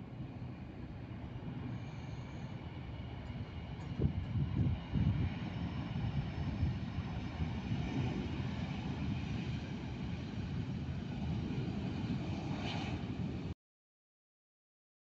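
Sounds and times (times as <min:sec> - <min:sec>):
jet engines at takeoff thrust: 0:00.0 - 0:13.6.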